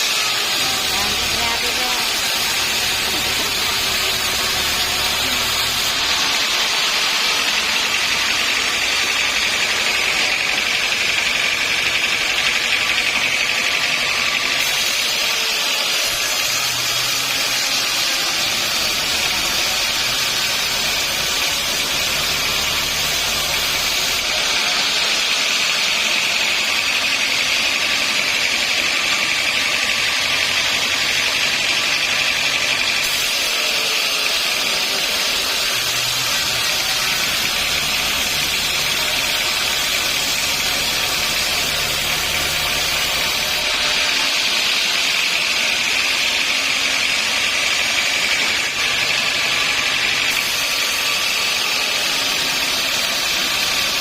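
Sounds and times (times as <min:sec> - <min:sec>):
sawmill saw whining: 0:00.0 - 0:54.0.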